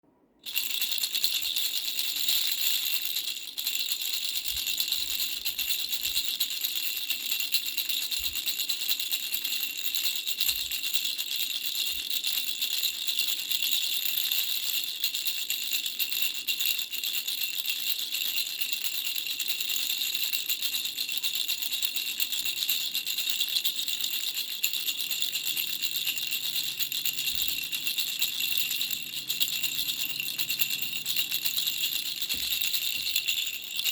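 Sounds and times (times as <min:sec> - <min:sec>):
baby rattle shaken: 0:00.4 - 0:33.9.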